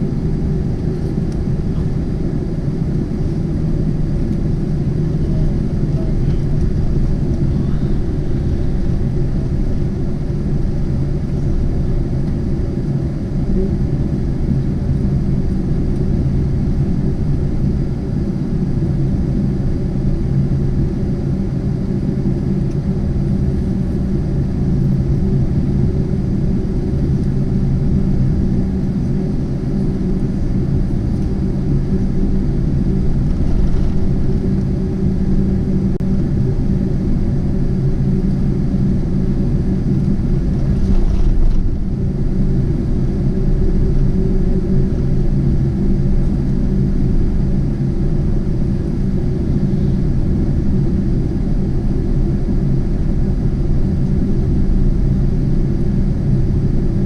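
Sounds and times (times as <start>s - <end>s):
low rumbling drone: 0.0s - 57.0s.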